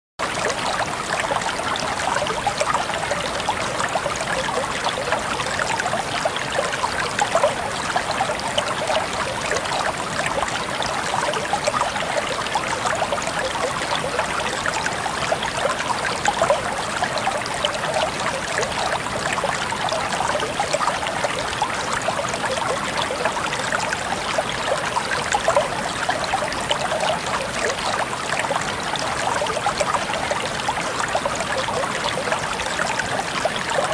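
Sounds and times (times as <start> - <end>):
running water trickling: 0.2 - 33.9.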